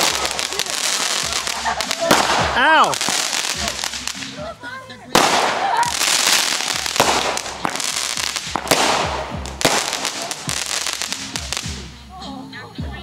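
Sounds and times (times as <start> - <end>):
fireworks bangs and crackling: 0.0 - 11.9.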